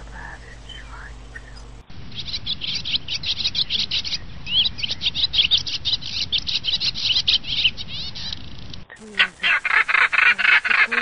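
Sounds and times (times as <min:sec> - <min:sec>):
songbirds chirping in chorus: 0:00.0 - 0:11.0.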